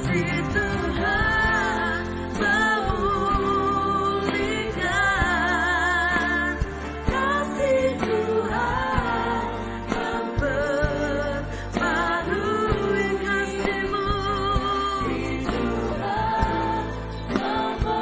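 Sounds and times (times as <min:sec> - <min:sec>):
live band playing: 0:00.0 - 0:18.0
woman singing with vibrato: 0:00.0 - 0:18.0.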